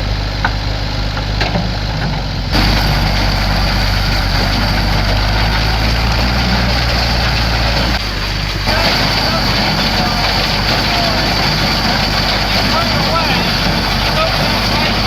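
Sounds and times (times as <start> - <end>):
tractor and baler running: 0.0 - 15.0.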